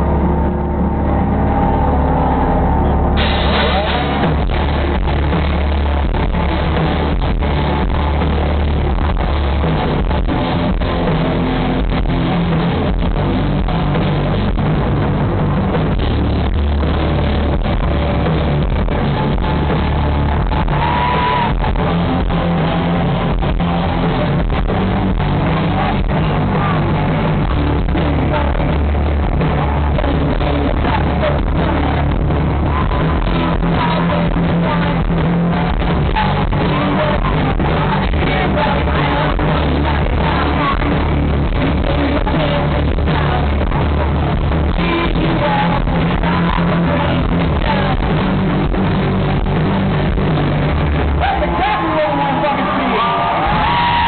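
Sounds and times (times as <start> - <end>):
live rock band: 0.0 - 54.0.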